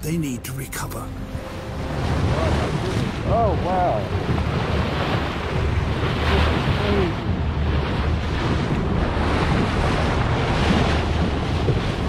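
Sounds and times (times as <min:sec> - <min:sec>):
water rushing along boat hull: 0:00.0 - 0:12.0
wind buffeting microphone: 0:01.7 - 0:12.0.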